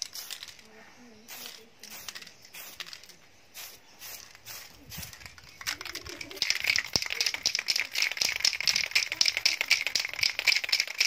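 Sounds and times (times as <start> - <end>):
spray can ball rattling: 0.0 - 0.7, 1.3 - 11.0.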